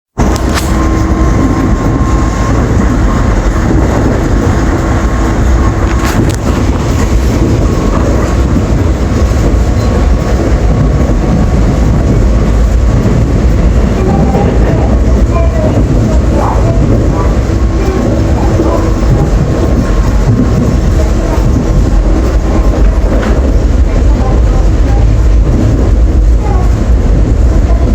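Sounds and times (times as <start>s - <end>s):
subway train rumble: 0.1s - 27.9s.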